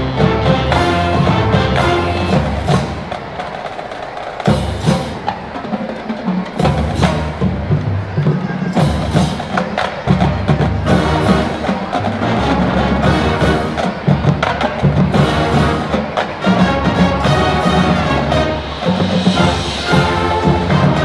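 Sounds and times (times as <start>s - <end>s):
marching band playing rock: 0.0s - 21.0s.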